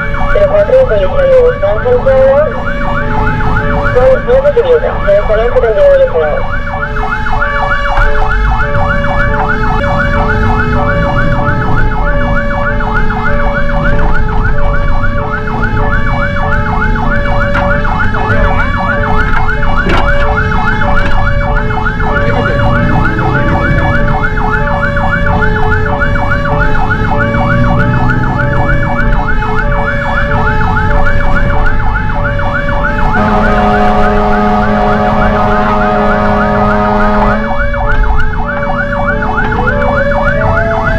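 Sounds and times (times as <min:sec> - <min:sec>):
engine and road rumble: 0:00.0 - 0:40.9
two-tone siren: 0:00.0 - 0:40.9
warbling siren: 0:00.0 - 0:40.9.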